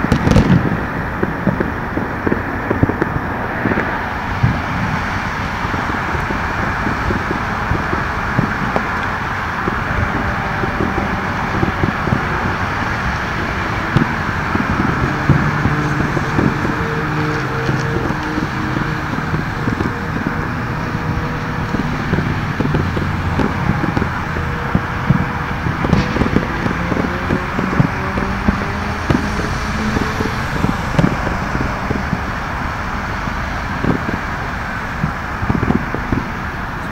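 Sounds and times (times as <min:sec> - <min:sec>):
distant fireworks popping and banging: 0:00.0 - 0:36.9
steady background noise: 0:00.0 - 0:36.9.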